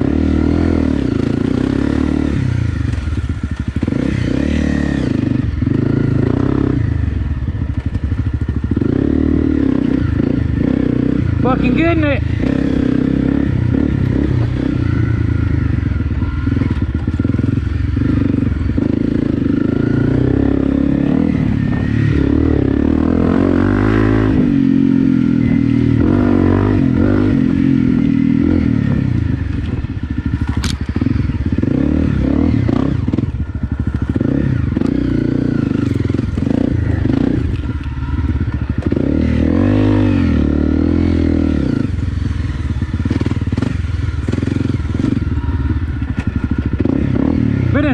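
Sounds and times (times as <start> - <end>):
motorcycle engine under load: 0.0 - 47.9.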